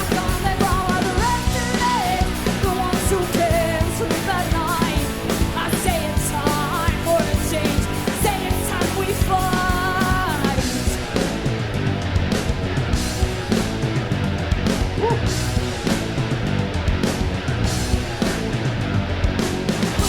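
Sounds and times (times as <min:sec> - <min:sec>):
bass: 0:00.0 - 0:20.0
distorted electric guitars: 0:00.0 - 0:20.0
drums: 0:00.0 - 0:20.0
melodic guitar lead line: 0:00.0 - 0:20.0.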